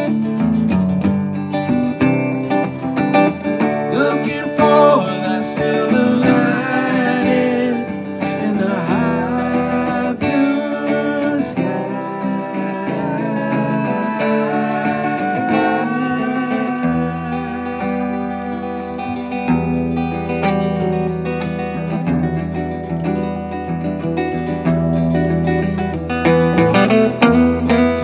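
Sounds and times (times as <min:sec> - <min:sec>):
acoustic guitar: 0:00.0 - 0:28.0
electric guitar: 0:00.0 - 0:28.0.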